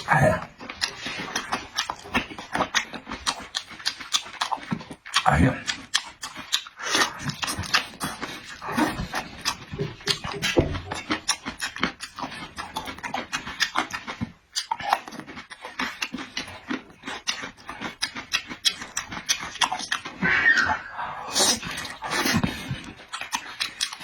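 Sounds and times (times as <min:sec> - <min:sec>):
wet chewing and lip-smacking: 0:00.0 - 0:24.0.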